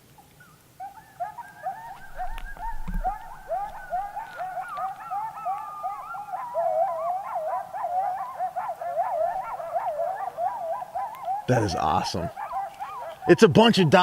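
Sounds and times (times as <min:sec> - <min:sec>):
coyotes yipping and howling: 0:00.0 - 0:14.0.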